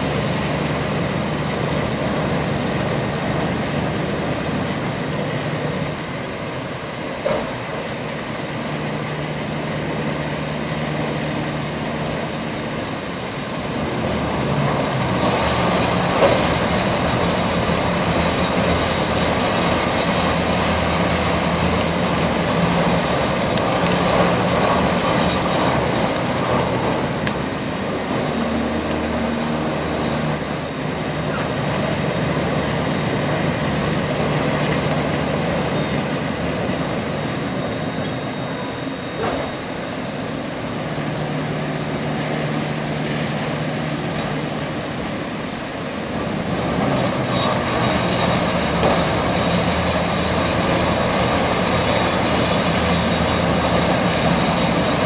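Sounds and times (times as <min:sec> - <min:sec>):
heavy machinery engine drone: 0:00.0 - 0:55.0.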